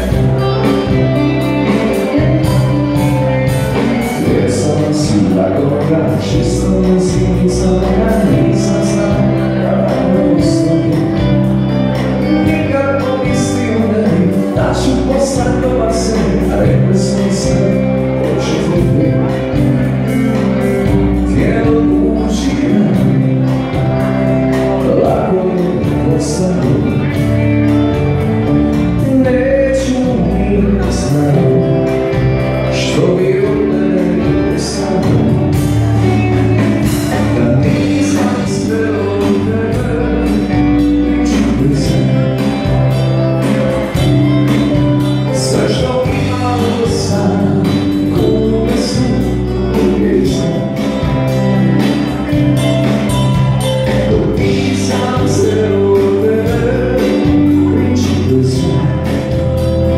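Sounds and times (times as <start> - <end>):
man singing into microphone: 0.0 - 44.1, 45.1 - 52.3, 53.8 - 59.9
instrumental backing with beat: 0.0 - 59.9.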